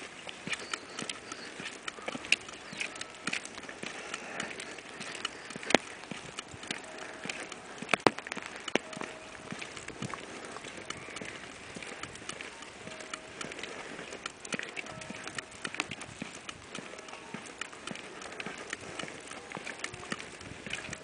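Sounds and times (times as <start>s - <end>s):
light clicks and taps: 0.0s - 21.0s.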